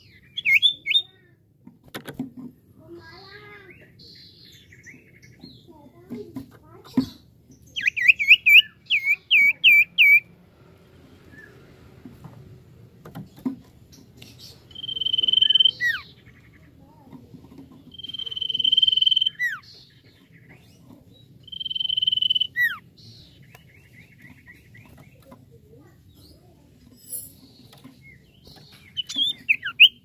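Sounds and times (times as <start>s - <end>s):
bird chirping notes: 0.0s - 1.3s, 3.0s - 11.8s, 13.2s - 30.0s.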